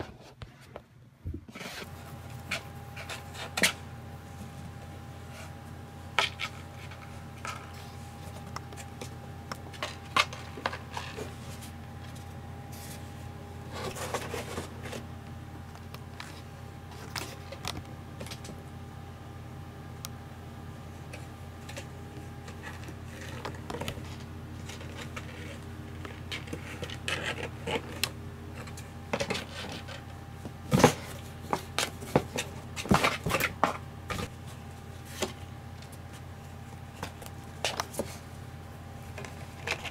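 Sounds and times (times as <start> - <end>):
faint hum: 0.0 - 39.9
kittens scratching cardboard: 1.5 - 15.2, 21.0 - 39.9.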